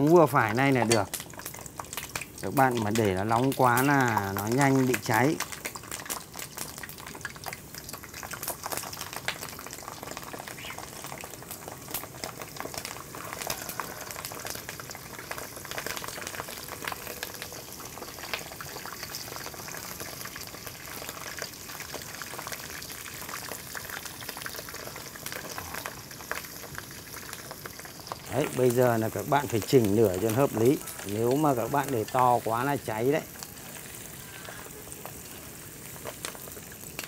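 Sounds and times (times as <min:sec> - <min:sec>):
food deep-frying in hot oil: 0:00.0 - 0:37.0
sharp crackling pops of oil: 0:00.0 - 0:37.0.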